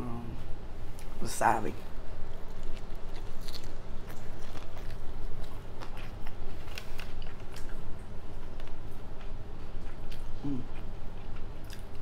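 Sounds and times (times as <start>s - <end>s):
person chewing food: 2.2s - 12.0s.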